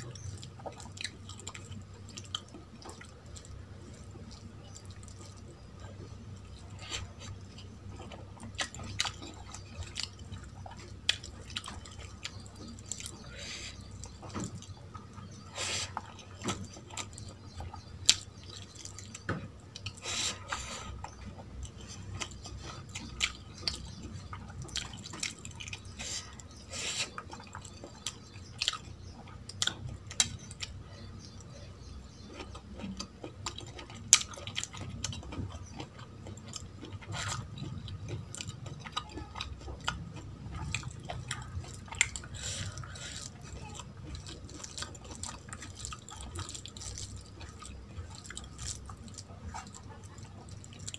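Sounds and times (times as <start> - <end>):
chewing and wet mouth smacks: 0.0 - 50.9.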